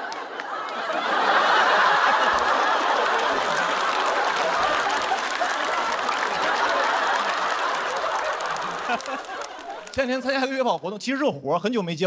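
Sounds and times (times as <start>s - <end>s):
audience laughing: 0.0s - 10.5s
audience applauding: 0.0s - 10.8s.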